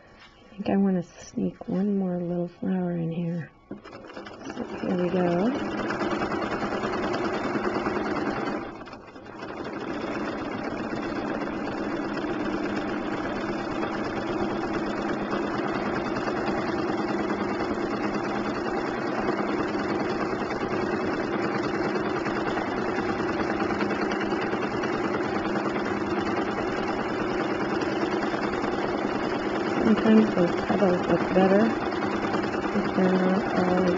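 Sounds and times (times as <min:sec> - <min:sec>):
sewing machine running: 0:03.2 - 0:33.9.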